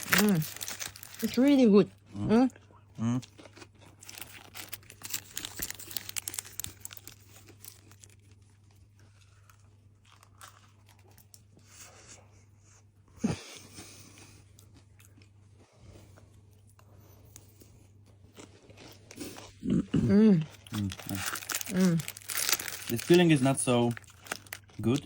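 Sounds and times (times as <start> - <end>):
crunchy pastry chewing: 0.0 - 12.8, 13.6 - 25.0
faint low hum: 0.0 - 25.0.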